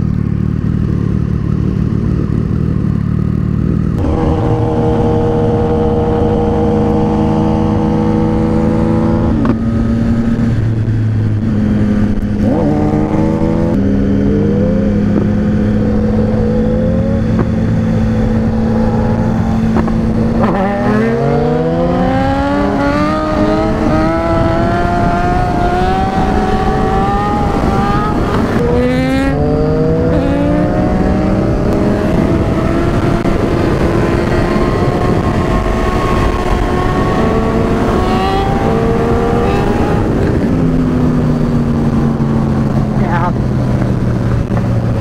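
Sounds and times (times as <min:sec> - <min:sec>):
motorcycle engines accelerating: 0:00.0 - 0:45.0
wind rush: 0:03.9 - 0:45.0.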